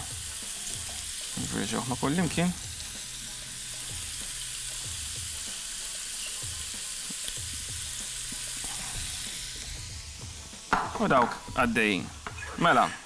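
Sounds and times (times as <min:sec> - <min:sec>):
onion and sausage sizzling: 0:00.0 - 0:13.0.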